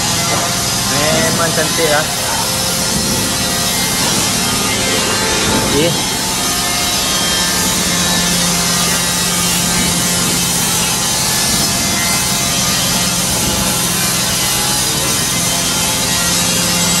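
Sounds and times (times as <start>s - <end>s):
spray gun hissing air: 0.4s - 17.0s.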